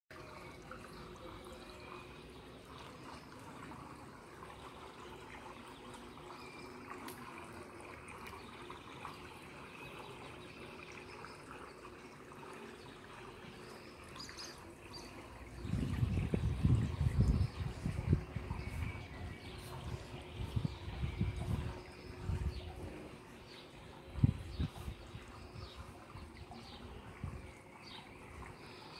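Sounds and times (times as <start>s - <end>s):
pool water trickling: 0.1s - 28.9s.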